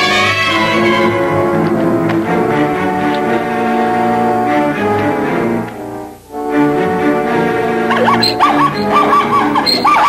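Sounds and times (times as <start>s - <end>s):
orchestral music with brass chords: 0.0s - 10.0s.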